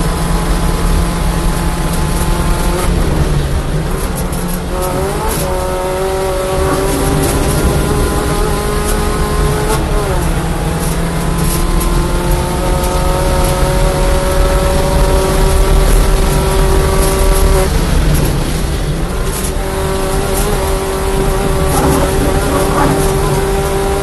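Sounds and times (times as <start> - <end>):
race car engine pulling hard: 0.0 - 24.0
wind and road noise: 0.0 - 24.0.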